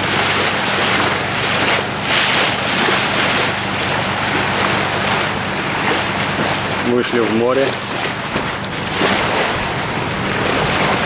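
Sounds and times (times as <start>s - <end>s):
low engine hum: 0.0s - 11.0s
water rushing along hull: 0.0s - 11.0s.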